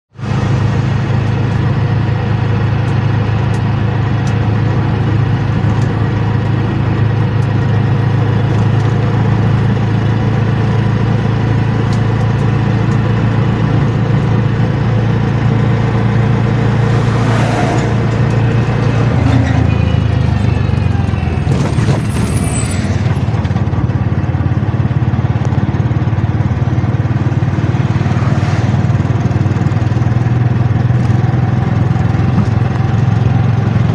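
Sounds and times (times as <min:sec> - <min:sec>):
motor engine humming: 0:00.1 - 0:33.9.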